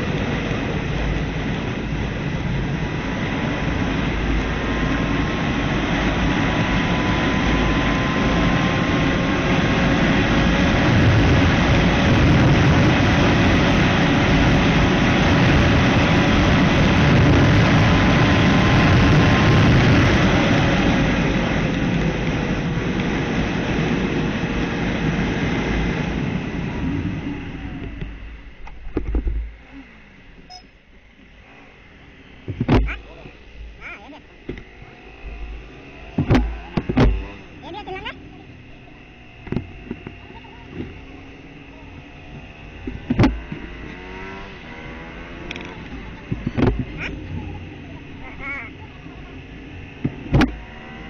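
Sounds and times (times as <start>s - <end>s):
wind rushing over microphone: 0.0s - 29.6s, 34.5s - 51.0s
motorcycle running at speed: 0.0s - 51.0s.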